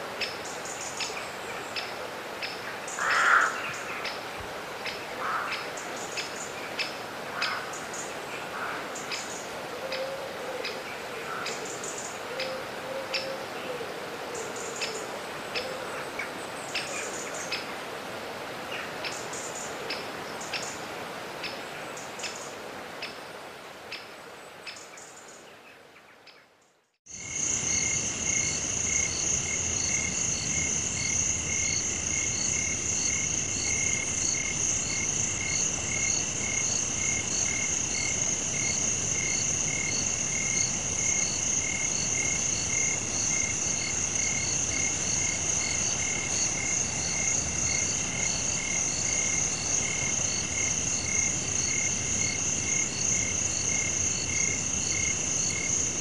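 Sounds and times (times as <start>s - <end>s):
frogs and insects chorus: 0.0s - 18.0s, 18.6s - 23.3s, 27.1s - 56.0s.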